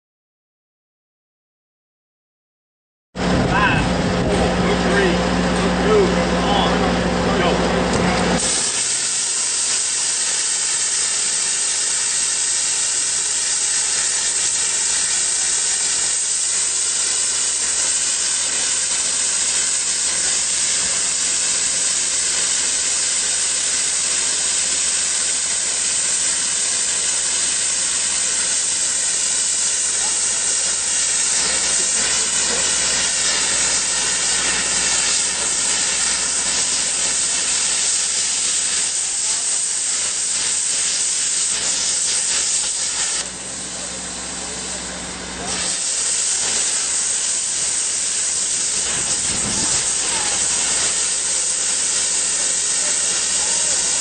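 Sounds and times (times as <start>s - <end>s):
plasma cutter hissing: 7.9s - 54.0s.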